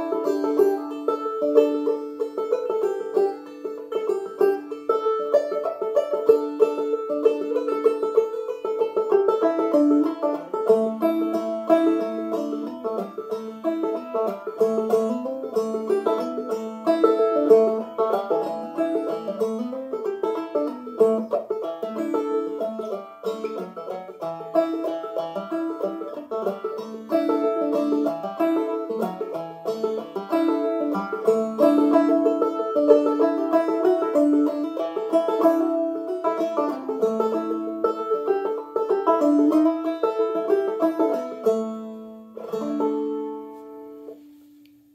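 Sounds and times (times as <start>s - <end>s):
banjo plucked quickly: 0.0s - 44.2s.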